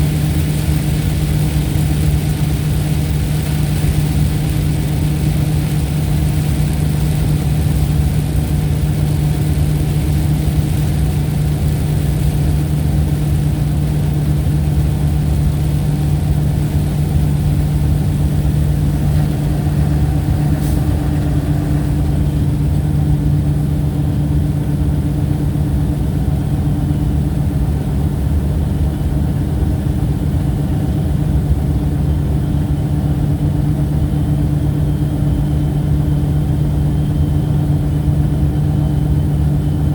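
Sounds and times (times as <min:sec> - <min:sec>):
mechanical drone with low hum: 0:00.0 - 0:39.9.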